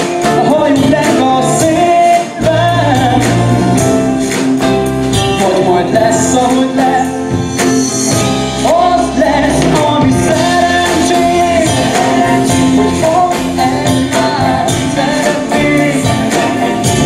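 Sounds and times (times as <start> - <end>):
bass guitar: 0.0 - 17.0
drums: 0.0 - 17.0
electric guitar: 0.0 - 17.0
keyboard: 0.0 - 17.0
person singing: 0.0 - 17.0.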